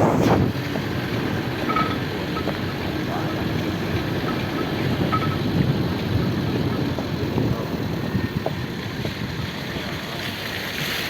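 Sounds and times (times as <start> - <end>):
wind buffeting microphone: 0.0 - 10.2
off-road vehicle engine rumble: 0.0 - 11.0.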